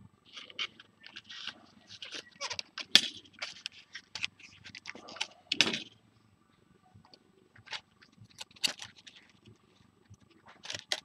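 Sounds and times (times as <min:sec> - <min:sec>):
plastic scraping and clicking on foam: 0:00.3 - 0:05.9, 0:07.6 - 0:11.0.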